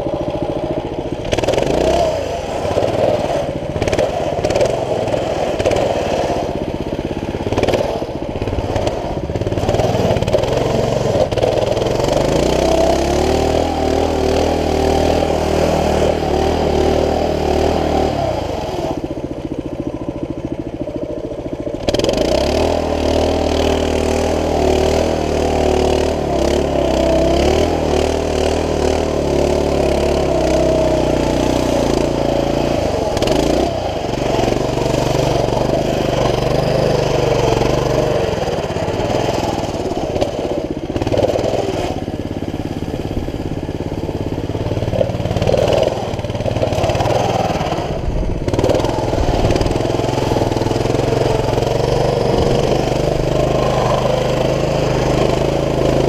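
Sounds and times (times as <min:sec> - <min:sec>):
mini bike engine running: 0:00.0 - 0:56.0.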